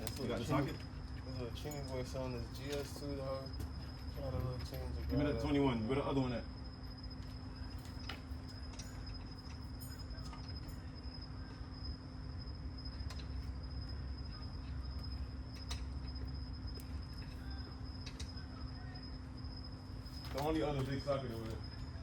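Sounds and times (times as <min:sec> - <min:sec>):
background hum: 0:00.0 - 0:22.0
faint high whine: 0:00.0 - 0:22.0.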